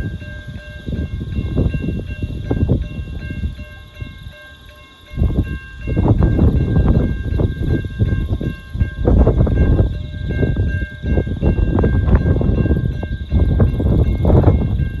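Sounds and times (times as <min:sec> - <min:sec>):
faint high ringing tones: 0:00.0 - 0:15.0
wind buffeting microphone: 0:00.0 - 0:15.0.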